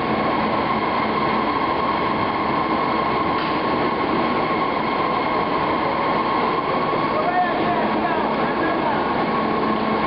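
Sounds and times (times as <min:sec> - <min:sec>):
factory machinery droning: 0:00.0 - 0:10.0.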